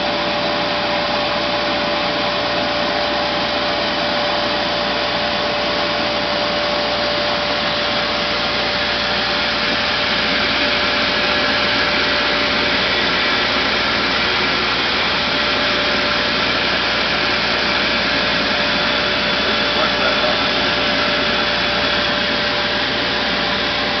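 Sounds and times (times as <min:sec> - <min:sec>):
metal finishing machine whirring: 0:00.0 - 0:24.0.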